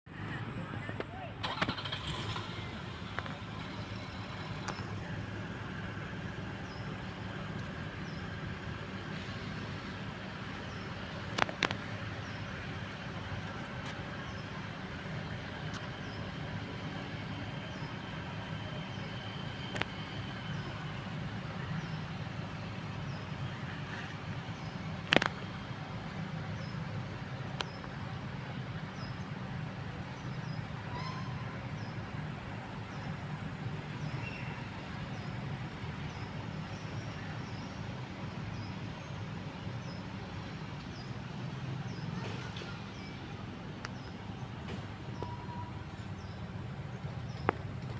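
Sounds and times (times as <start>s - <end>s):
auto-rickshaw engine running: 0.1s - 47.9s.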